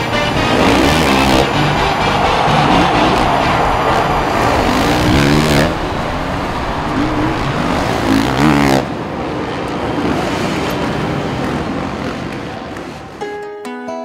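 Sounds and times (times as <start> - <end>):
motorcycle engines revving hard: 0.0 - 13.2
stadium noise: 0.0 - 13.4.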